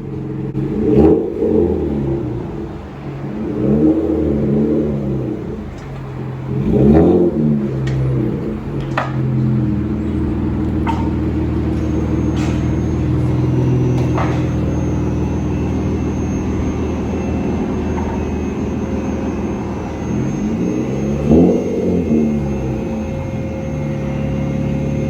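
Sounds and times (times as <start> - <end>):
car exhaust droning: 0.0 - 25.0.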